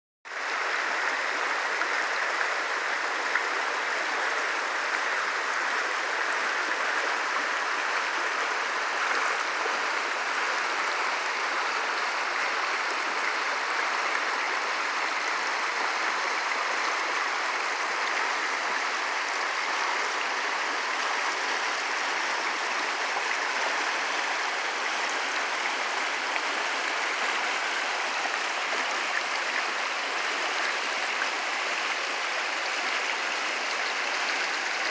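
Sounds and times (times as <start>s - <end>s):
river rushing over rocks: 0.3s - 34.9s.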